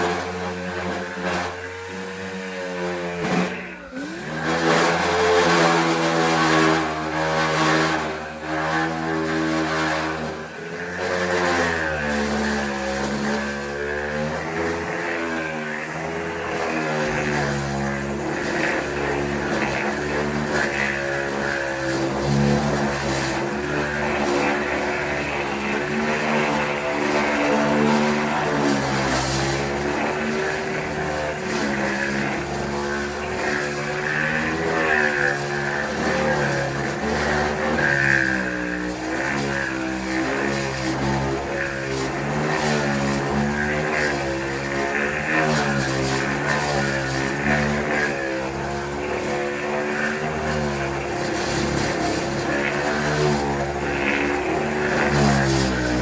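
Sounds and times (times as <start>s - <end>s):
power tool motor running: 0.0s - 56.0s.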